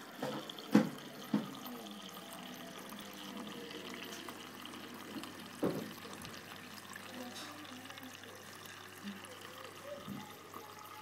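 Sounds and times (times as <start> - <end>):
fountain water pouring: 0.0 - 11.0.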